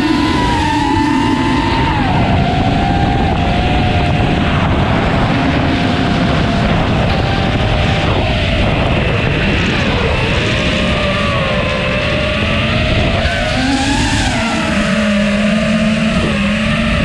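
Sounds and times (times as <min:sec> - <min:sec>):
drone motors whining: 0:00.0 - 0:17.0
wind rushing over microphone: 0:00.0 - 0:17.0.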